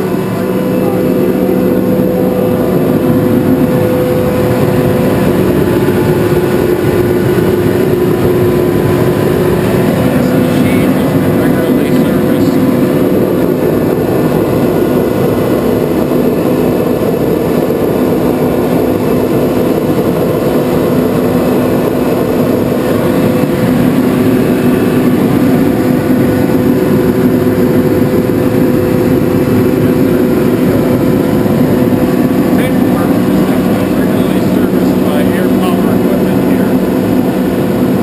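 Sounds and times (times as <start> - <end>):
air compressor humming: 0.0 - 38.0.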